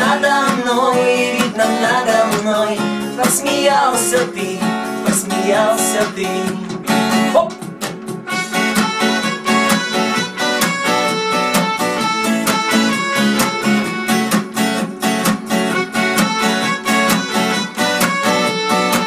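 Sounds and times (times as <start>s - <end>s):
pop band playing instrumental: 0.0s - 19.0s.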